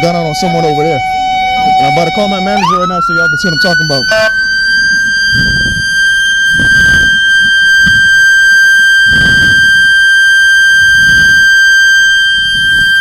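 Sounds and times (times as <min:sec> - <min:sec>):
low rumbling bumps: 0:00.0 - 0:11.7
high-pitched electronic tone: 0:00.0 - 0:13.0.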